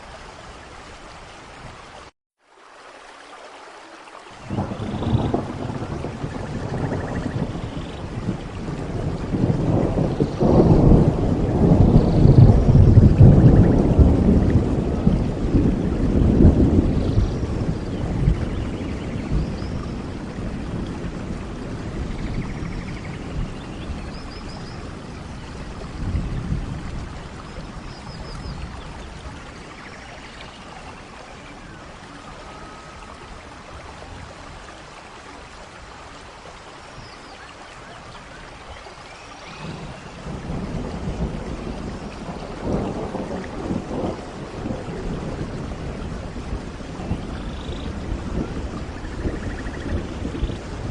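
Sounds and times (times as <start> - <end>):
rain falling steadily: 0.0 - 50.9
low thunder rumbling: 4.4 - 34.7, 39.3 - 50.9.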